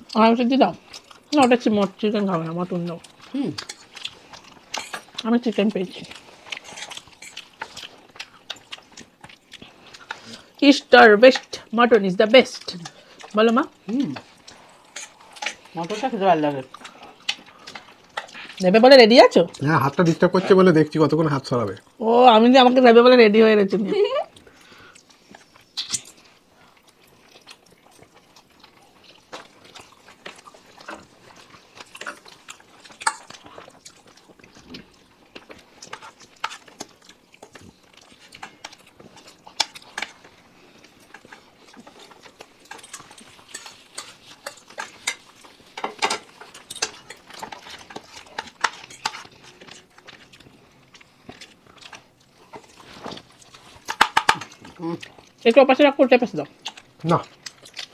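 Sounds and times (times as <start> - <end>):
chewing: 0.0 - 22.0, 23.7 - 57.9.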